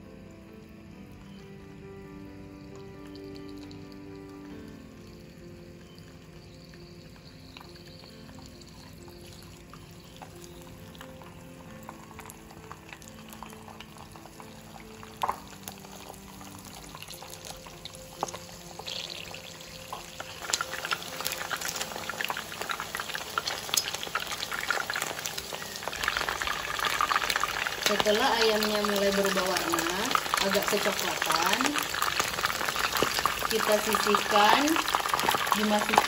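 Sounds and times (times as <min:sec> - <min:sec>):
chicken frying in hot oil: 0:02.7 - 0:36.0.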